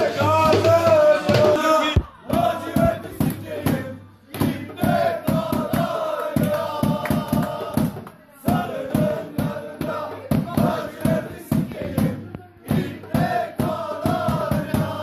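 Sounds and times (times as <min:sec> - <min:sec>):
men chanting in unison: 0:00.0 - 0:15.0
sharp rhythmic clapping: 0:02.3 - 0:15.0.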